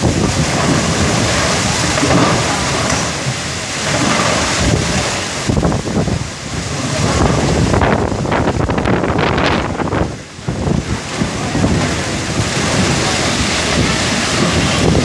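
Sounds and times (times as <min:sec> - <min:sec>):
heavy rain pouring: 0:00.0 - 0:15.0
wind buffeting microphone: 0:00.0 - 0:15.0.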